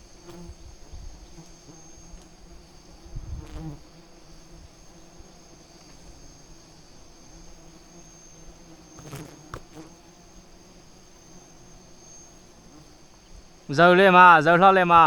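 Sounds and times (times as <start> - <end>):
bees buzzing: 0.0 - 15.0
high insect drone: 0.0 - 15.0.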